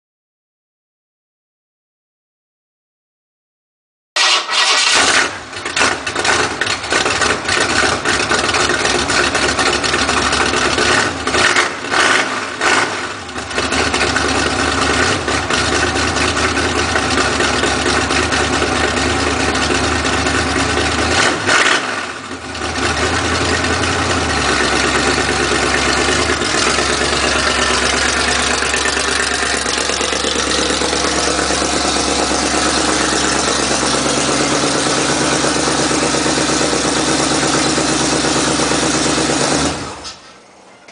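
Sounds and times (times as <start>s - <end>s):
car engine revving and idling: 4.2s - 40.2s.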